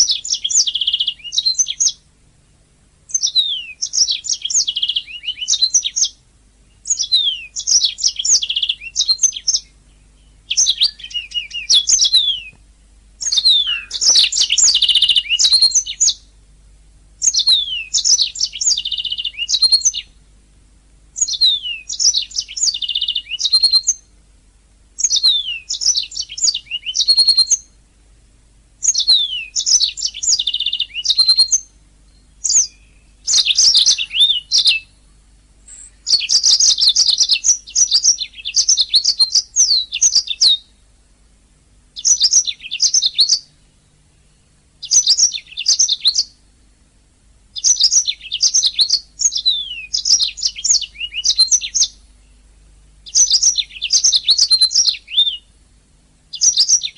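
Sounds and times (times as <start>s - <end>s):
canary singing trills: 0.0s - 2.1s, 3.1s - 12.6s, 13.2s - 16.4s, 17.2s - 20.2s, 21.1s - 24.2s, 25.0s - 27.8s, 28.8s - 40.9s, 41.8s - 46.7s, 47.5s - 55.7s, 56.3s - 56.9s.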